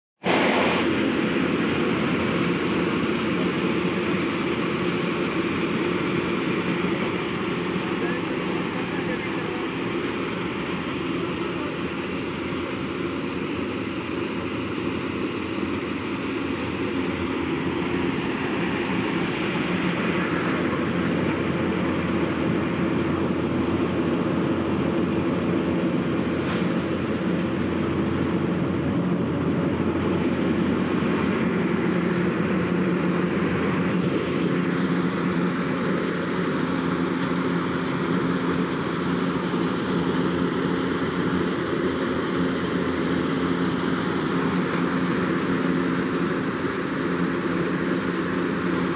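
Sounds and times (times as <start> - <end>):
machine engine droning: 0.2 - 48.9.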